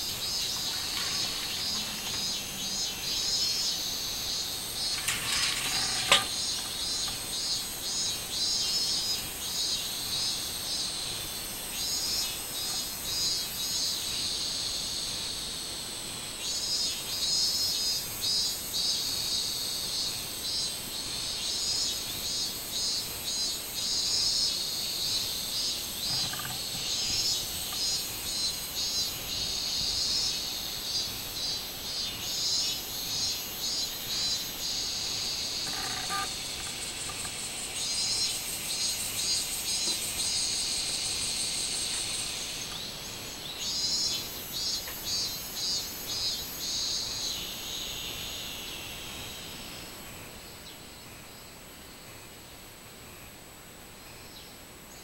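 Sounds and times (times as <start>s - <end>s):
cicadas singing in chorus: 0.0s - 55.0s.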